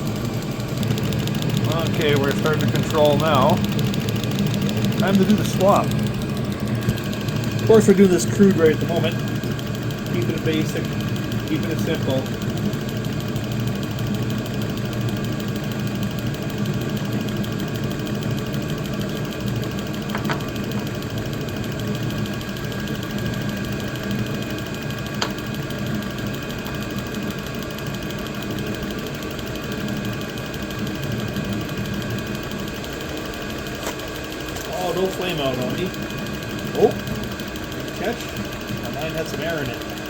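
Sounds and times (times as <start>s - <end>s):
blower fan whine: 0.0s - 40.0s
heater combustion rumble: 0.0s - 40.0s.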